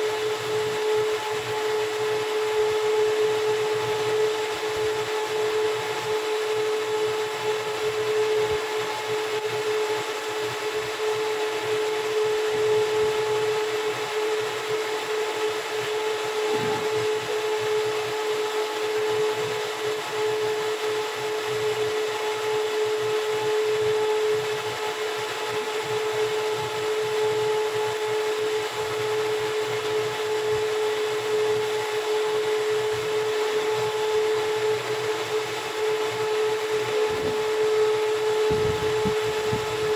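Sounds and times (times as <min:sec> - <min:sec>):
machine hum with whirring: 0:00.0 - 0:39.9.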